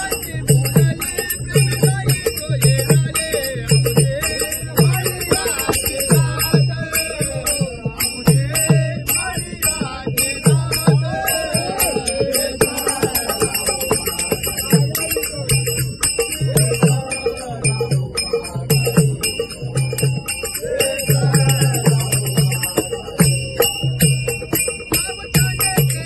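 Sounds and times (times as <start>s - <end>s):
group singing: 0.0s - 26.0s.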